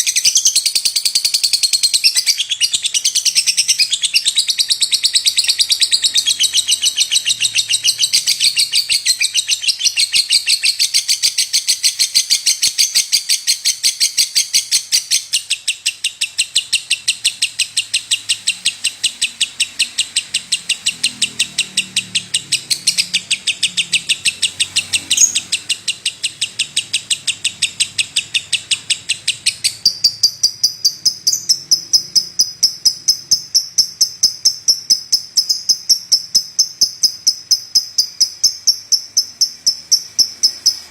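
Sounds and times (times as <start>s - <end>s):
lovebird chirping shrilly: 0.0s - 40.9s.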